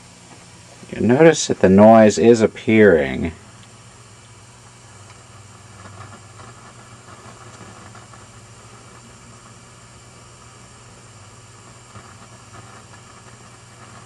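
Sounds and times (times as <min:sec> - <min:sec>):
crackling hiss: 0:00.0 - 0:14.0
loudspeaker low hum: 0:00.6 - 0:14.0.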